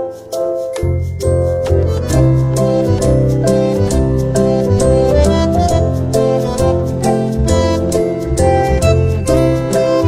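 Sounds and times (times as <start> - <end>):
keyboard music with steady beat: 0.0 - 10.0.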